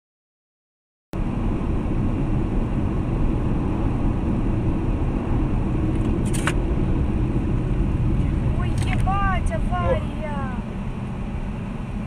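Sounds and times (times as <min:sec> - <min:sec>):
car driving at highway speed: 0:01.2 - 0:12.0.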